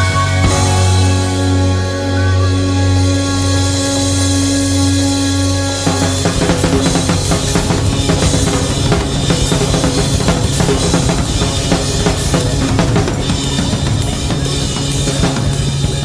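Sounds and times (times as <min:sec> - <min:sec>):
music with drum-kit beat: 0:00.0 - 0:16.0.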